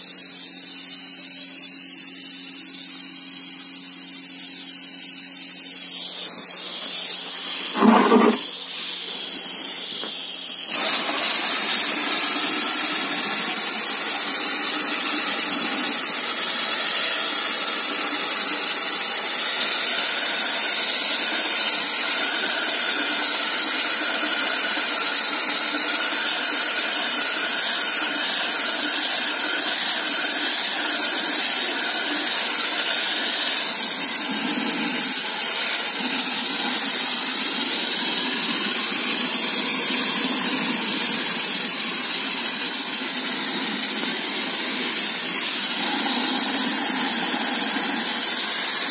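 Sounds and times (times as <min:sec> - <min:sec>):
air compressor running: 0:00.0 - 0:48.9
sandblasting gun hissing: 0:00.0 - 0:48.9.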